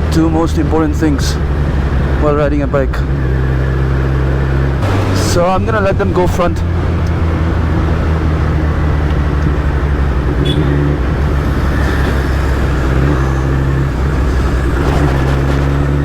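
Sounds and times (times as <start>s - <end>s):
road and wind noise: 0.0s - 16.0s
motorcycle engine running: 3.1s - 16.0s.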